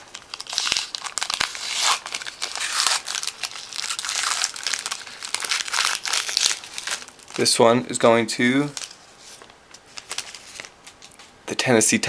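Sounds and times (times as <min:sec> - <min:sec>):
foil wrapper crinkling and tearing: 0:00.0 - 0:07.6, 0:08.5 - 0:11.3.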